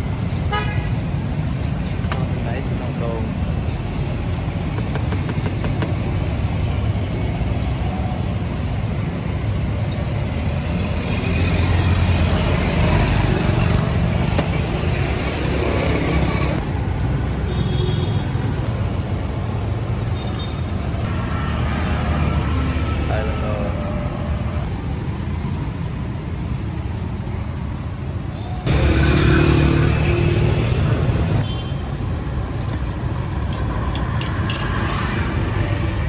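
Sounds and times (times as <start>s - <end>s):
passing motor vehicles rumble: 0.0s - 20.2s, 20.8s - 36.0s.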